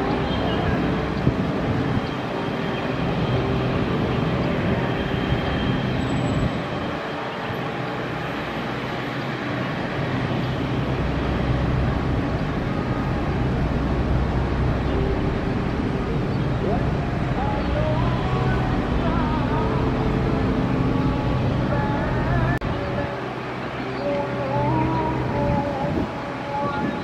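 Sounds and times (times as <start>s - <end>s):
jet engines at taxi power: 0.0s - 24.2s.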